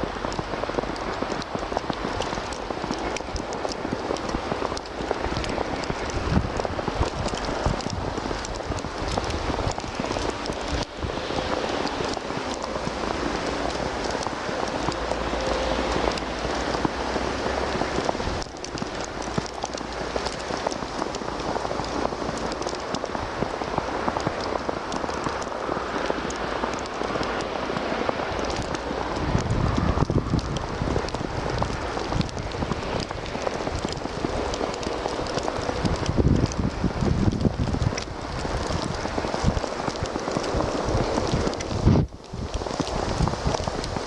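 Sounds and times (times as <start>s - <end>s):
wet snow pattering: 0.0s - 44.0s.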